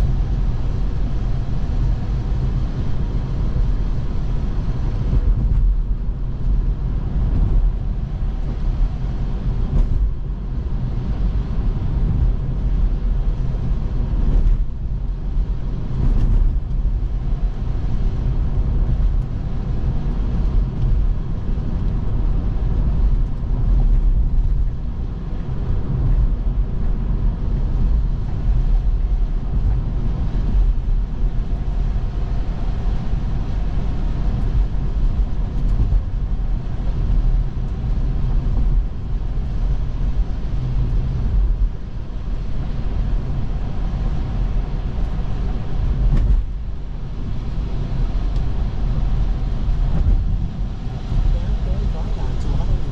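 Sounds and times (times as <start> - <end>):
road and tyre noise: 0.0 - 52.9.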